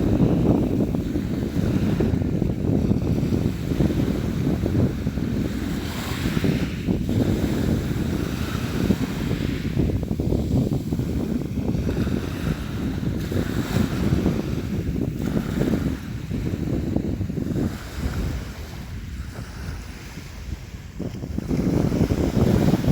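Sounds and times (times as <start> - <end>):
sea waves splashing: 0.0 - 22.9
wind rumble on microphone: 0.0 - 22.9.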